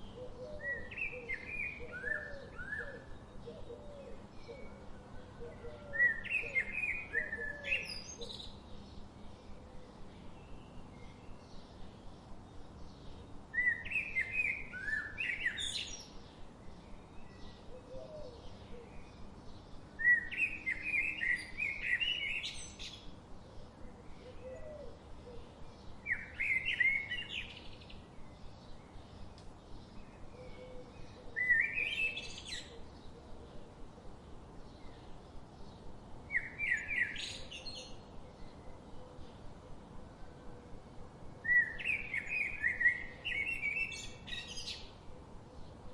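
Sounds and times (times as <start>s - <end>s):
bird singing: 0.0s - 40.7s, 41.4s - 45.9s.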